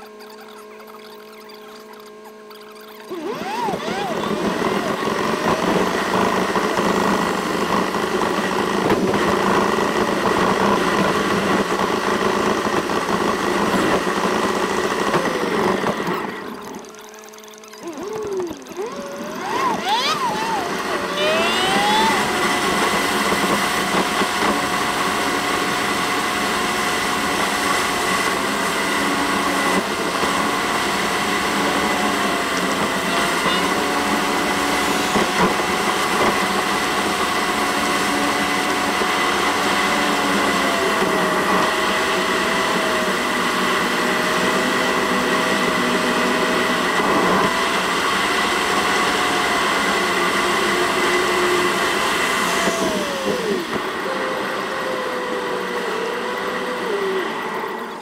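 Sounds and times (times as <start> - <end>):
sped-up high-pitched car whine: 0.0 - 58.0.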